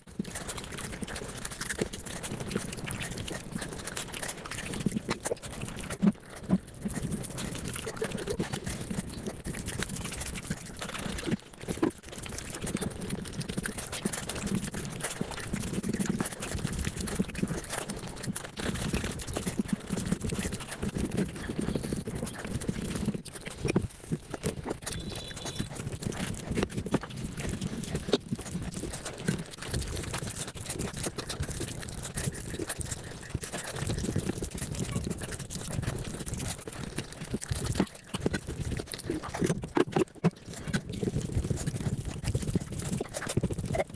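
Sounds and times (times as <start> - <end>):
sped-up chewing and mouth smacks: 0.0 - 43.9.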